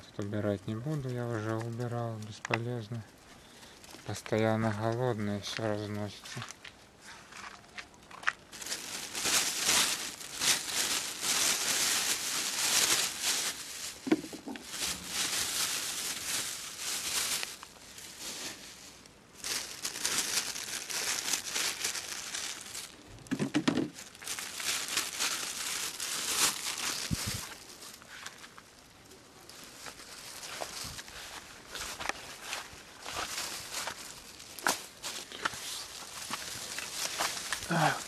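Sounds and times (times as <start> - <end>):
footsteps on dry leaves: 6.0 - 23.0, 23.9 - 28.8, 29.4 - 38.0.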